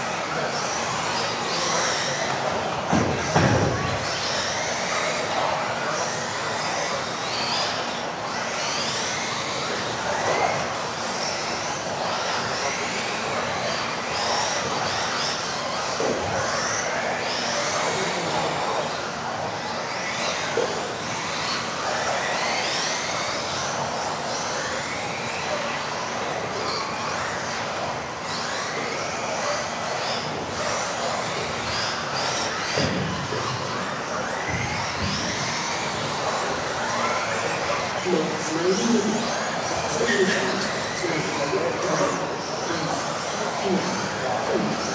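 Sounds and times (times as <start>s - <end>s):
electric motors whining: 0.0s - 44.9s
steady background noise: 0.0s - 44.9s.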